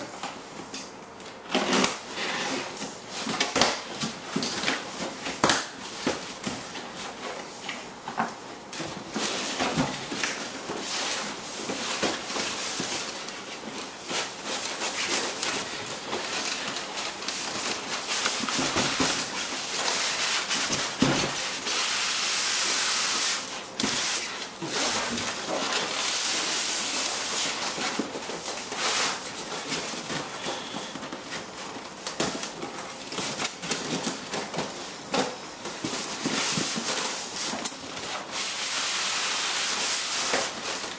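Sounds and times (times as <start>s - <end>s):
packing rustling and crinkling: 1.5s - 40.9s.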